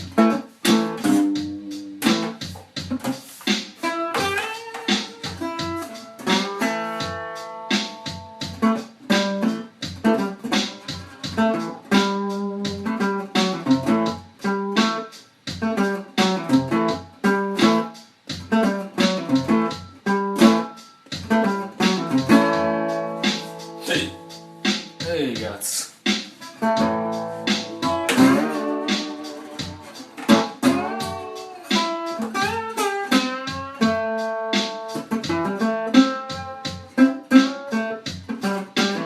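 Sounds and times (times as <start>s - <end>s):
plucked guitar music: 0.0s - 39.0s.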